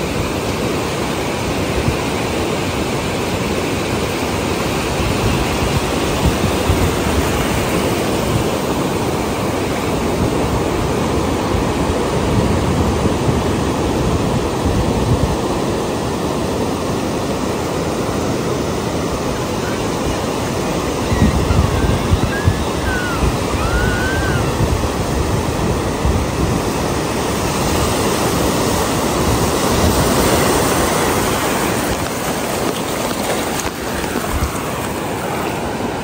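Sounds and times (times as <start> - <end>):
waves breaking on beach: 0.0 - 36.0.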